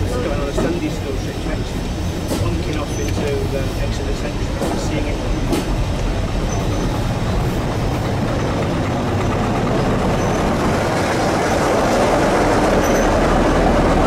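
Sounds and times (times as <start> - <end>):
diesel engine rumble: 0.0 - 14.0
wheel-on-rail noise: 0.0 - 14.0.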